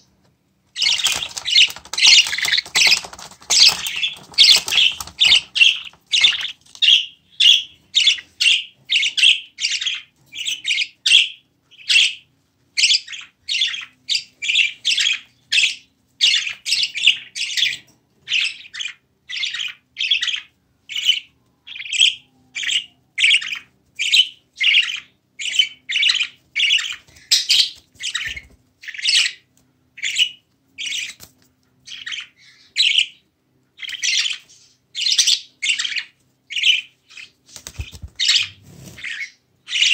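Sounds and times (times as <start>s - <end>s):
budgerigar chirping: 0.8s - 31.2s, 31.9s - 33.2s, 33.8s - 39.9s.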